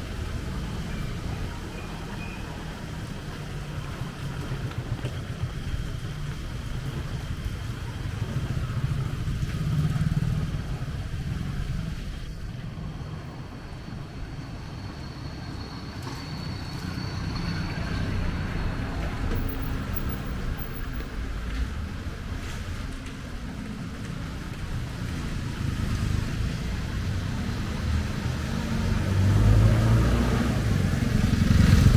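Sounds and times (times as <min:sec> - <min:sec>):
vehicle engines passing: 0:00.0 - 0:31.9.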